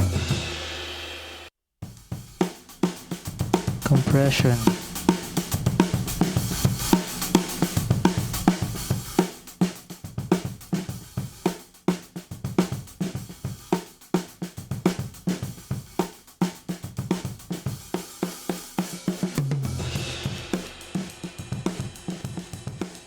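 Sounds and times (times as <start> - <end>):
drum kit playing a beat: 0.0 - 23.0.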